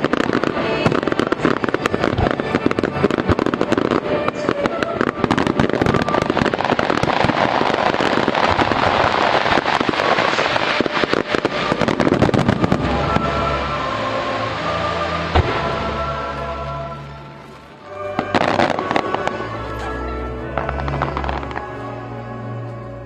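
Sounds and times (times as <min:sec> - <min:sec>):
fireworks bursting and crackling: 0:00.0 - 0:23.0
music playing: 0:00.0 - 0:23.0.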